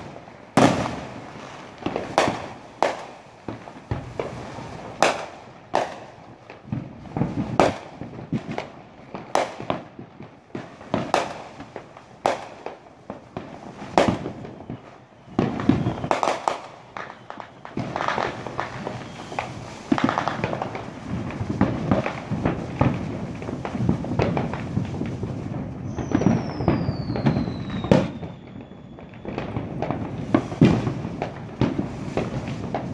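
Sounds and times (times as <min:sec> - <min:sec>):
distant fireworks bangs: 0:00.0 - 0:32.9
fireworks crackling: 0:00.0 - 0:32.9.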